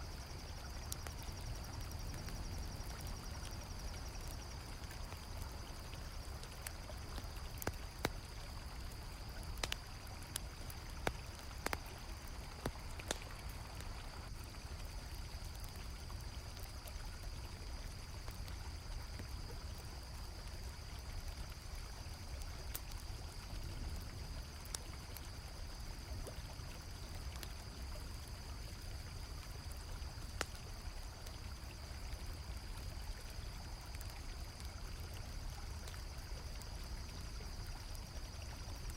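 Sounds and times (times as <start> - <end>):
campfire crackling: 0.0 - 38.9
cricket chorus: 0.0 - 38.9
river water flowing: 0.0 - 38.9.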